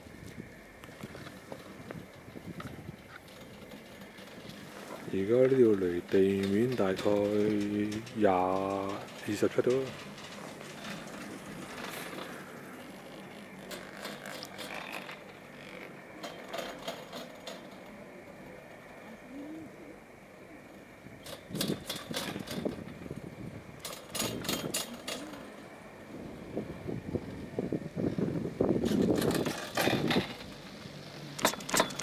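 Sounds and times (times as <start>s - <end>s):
faint steady whine: 0.0s - 32.0s
chairlift rope clattering: 0.7s - 19.0s, 21.2s - 26.8s, 28.5s - 32.0s.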